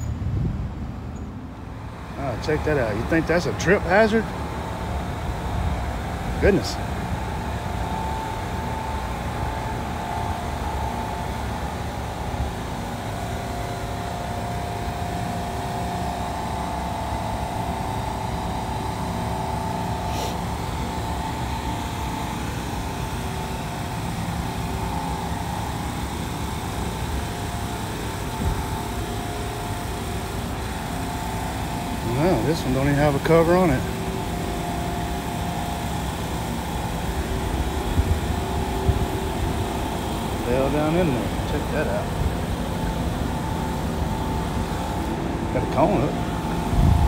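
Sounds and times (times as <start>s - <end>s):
mechanical hum: 0.0s - 47.0s
road traffic noise: 0.0s - 47.0s.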